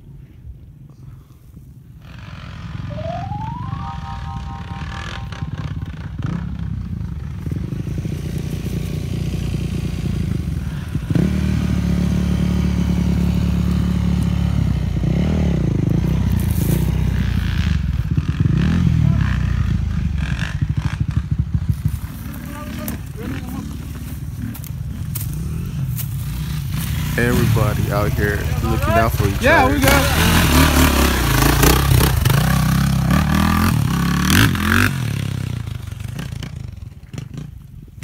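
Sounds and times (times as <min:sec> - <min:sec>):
dirt bike engine revving: 0:02.0 - 0:35.5.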